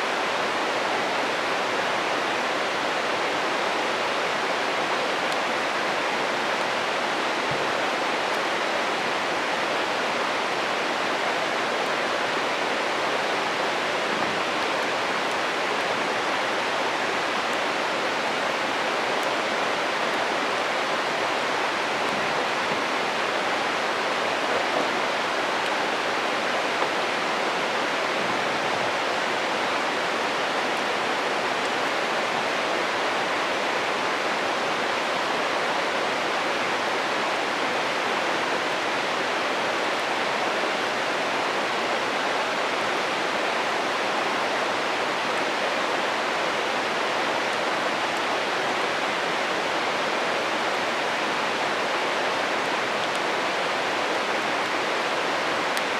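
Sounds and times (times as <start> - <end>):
stream rushing: 0.0 - 55.9.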